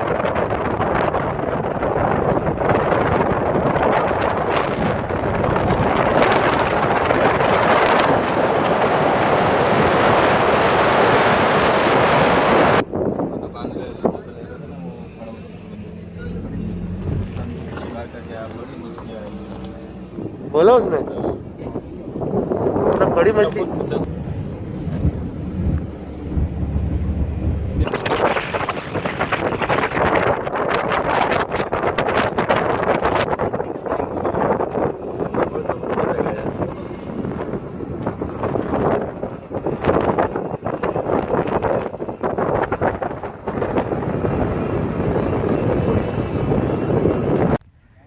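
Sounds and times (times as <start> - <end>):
wind rushing onto microphone: 0.0 - 15.4, 16.4 - 47.7
car road noise: 0.0 - 48.0.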